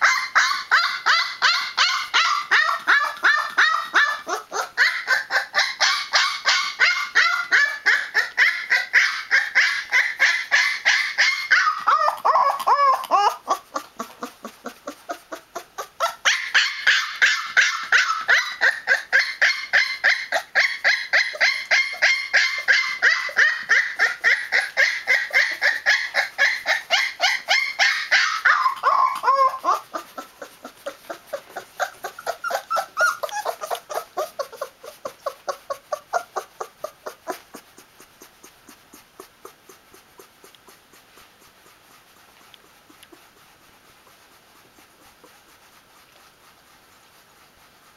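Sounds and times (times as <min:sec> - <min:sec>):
puppy yelping: 0:00.0 - 0:41.9.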